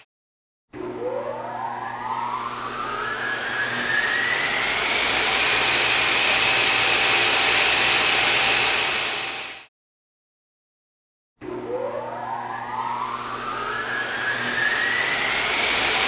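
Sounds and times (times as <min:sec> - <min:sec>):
machine motor whine: 0:00.7 - 0:09.7, 0:11.4 - 0:16.0.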